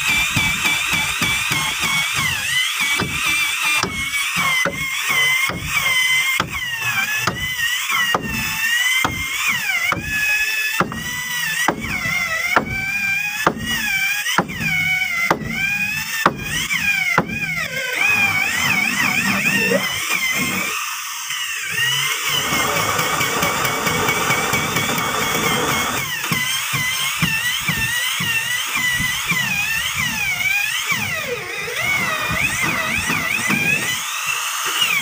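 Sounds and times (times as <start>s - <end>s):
electric drill boring into wood: 0.0s - 35.0s.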